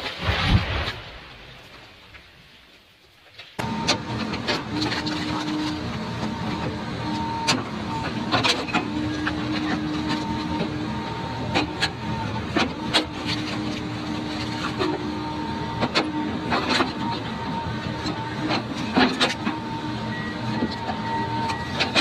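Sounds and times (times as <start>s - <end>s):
excavator hydraulics whining: 3.6s - 22.0s.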